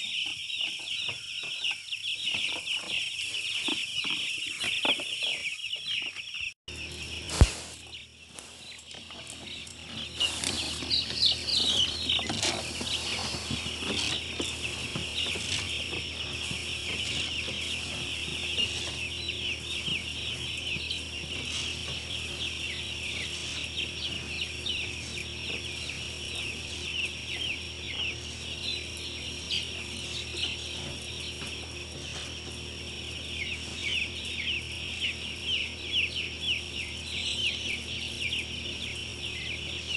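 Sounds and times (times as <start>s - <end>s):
chicks peeping: 0.0s - 39.9s
steady low hum: 6.7s - 39.9s.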